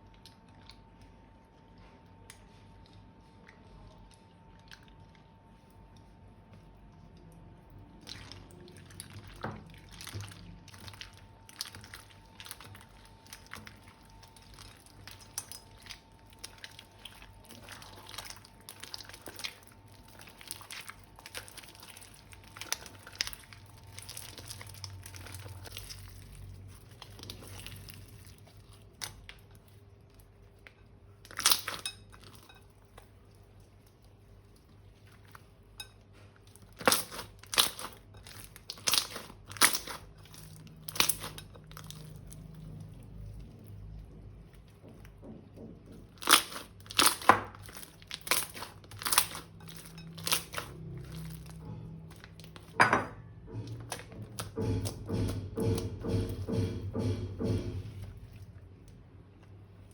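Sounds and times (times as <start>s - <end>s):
crunchy slime being mixed: 0.0s - 59.9s.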